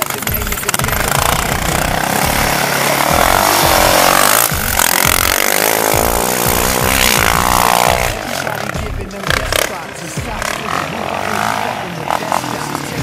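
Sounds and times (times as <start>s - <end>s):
quad engine revving: 0.0s - 13.0s.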